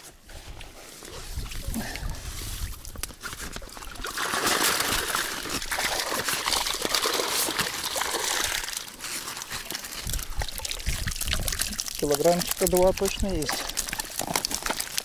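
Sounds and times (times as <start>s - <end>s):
water pouring from a net: 1.0s - 15.0s.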